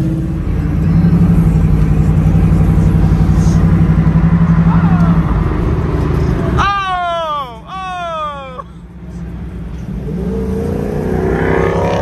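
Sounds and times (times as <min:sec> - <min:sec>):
car engine deep pulsing rumble: 0:00.0 - 0:12.0.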